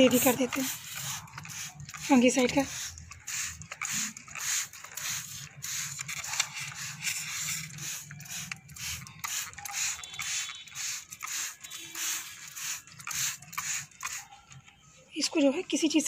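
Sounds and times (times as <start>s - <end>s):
spray bottle misting hiss: 0.0s - 14.3s.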